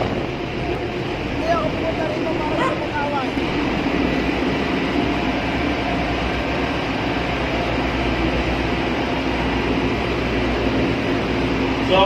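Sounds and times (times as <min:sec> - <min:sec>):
engine room machinery roar: 0:00.0 - 0:12.0.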